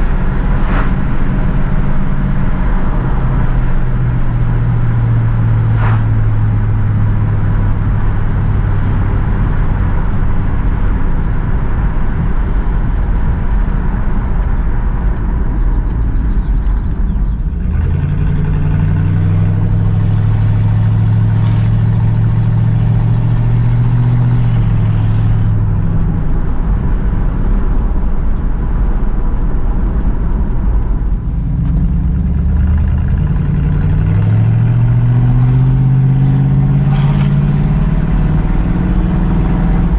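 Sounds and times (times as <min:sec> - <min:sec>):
car engine running: 0:00.0 - 0:39.9
wind and road noise: 0:00.0 - 0:39.9.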